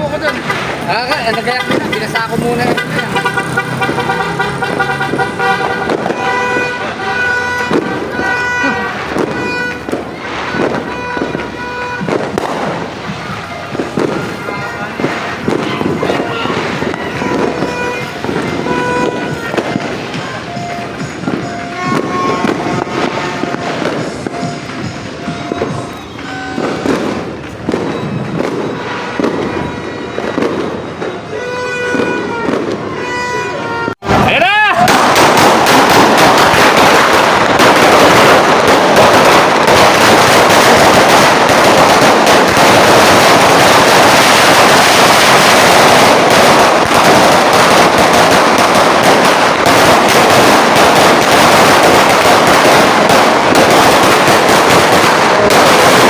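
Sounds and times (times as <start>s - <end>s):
firecracker belt crackling: 0.0s - 56.0s.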